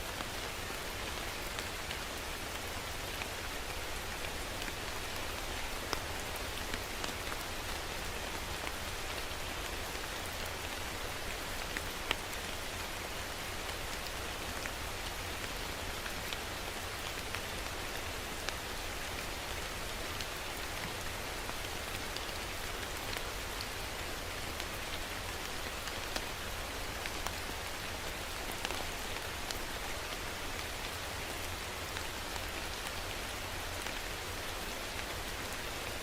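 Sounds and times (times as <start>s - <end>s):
steady rain hiss: 0.0s - 36.0s
raindrops ticking on a surface: 0.1s - 36.0s.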